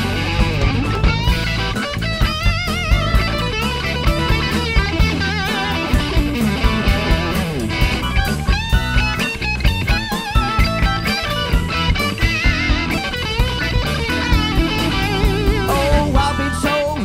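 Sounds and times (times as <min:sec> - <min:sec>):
bass guitar: 0:00.0 - 0:17.0
drum beat: 0:00.0 - 0:17.0
electric guitar lead: 0:00.0 - 0:17.0.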